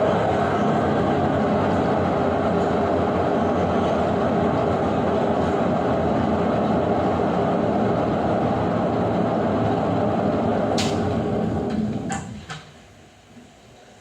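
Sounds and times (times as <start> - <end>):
washing machine running: 0.0 - 13.2.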